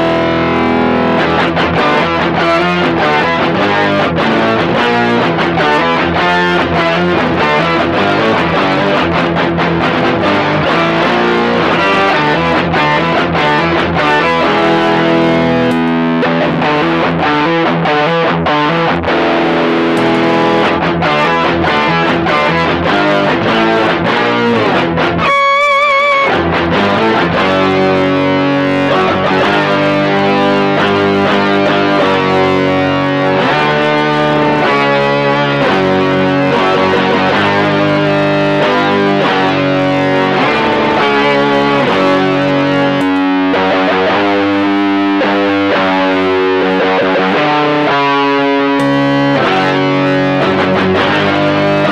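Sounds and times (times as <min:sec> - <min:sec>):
distorted electric guitar riffs: 0:00.0 - 0:51.9.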